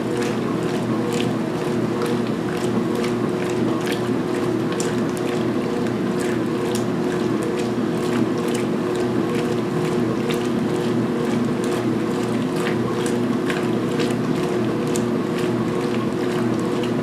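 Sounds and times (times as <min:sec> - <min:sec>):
washing machine motor hum: 0:00.0 - 0:17.0
water and laundry swishing: 0:00.0 - 0:17.0.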